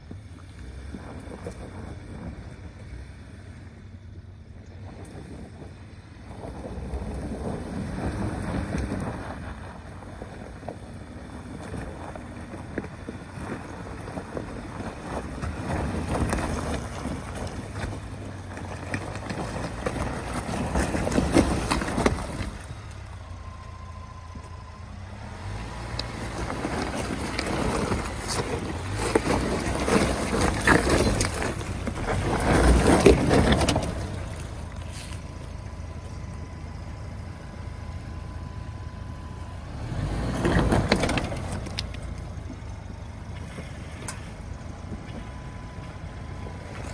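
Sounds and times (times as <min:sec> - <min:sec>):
tires crunching over loose stones: 0:00.0 - 0:46.9
truck engine climbing: 0:00.0 - 0:46.9.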